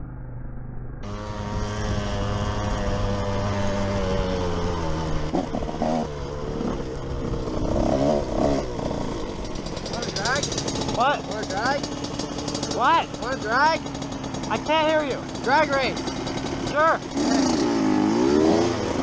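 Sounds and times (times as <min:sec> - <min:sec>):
dirt bike engine running: 0:01.0 - 0:19.0.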